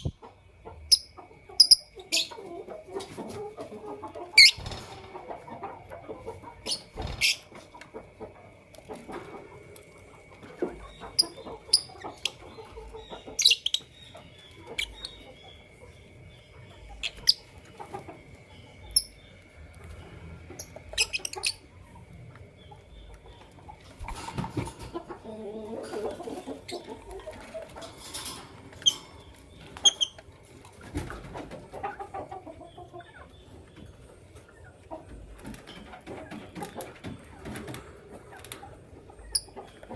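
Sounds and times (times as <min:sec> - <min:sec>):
lovebirds chirping: 0:00.0 - 0:02.7, 0:03.8 - 0:07.7, 0:10.3 - 0:35.3, 0:38.2 - 0:39.9.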